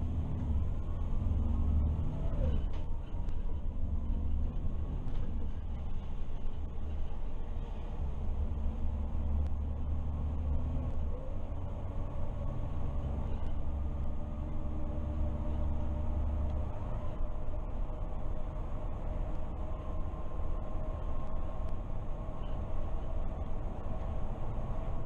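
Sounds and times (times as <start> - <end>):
bus engine rumble: 0.0 - 25.0
tyre and road noise: 0.0 - 25.0.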